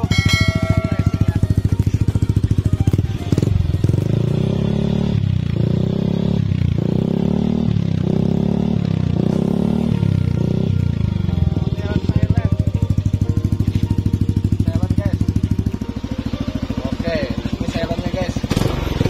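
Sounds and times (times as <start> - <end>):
scooter engine idling and revving: 0.0 - 19.0.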